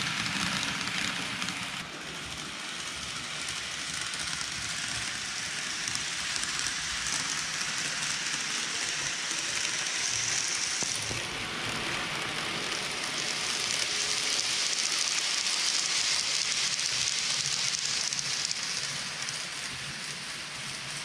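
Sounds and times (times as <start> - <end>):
model train wheels hissing on rail: 0.0 - 21.0.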